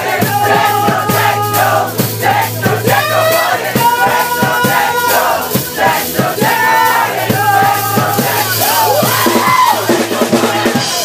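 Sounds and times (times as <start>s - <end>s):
crowd singing along: 0.0s - 11.0s
live rock band: 0.0s - 11.0s
shouted singing: 0.0s - 11.0s.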